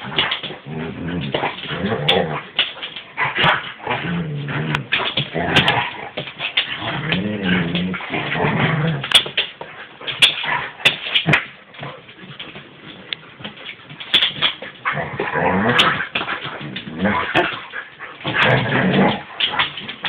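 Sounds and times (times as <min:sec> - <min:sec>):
paws clicking on wooden floor: 0:00.0 - 0:20.0.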